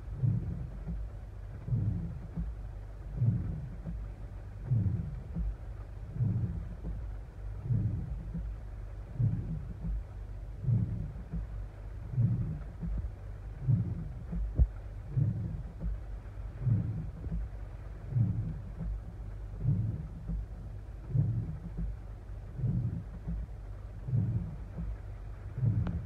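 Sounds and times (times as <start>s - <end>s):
faint rain: 0.0s - 26.0s
windshield wipers thumping: 0.0s - 26.0s.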